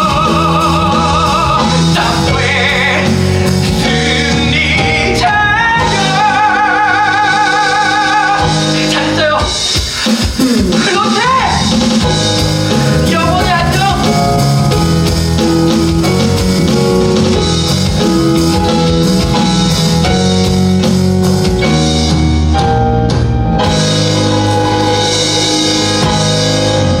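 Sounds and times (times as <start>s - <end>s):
live theatre band playing: 0.0s - 27.0s.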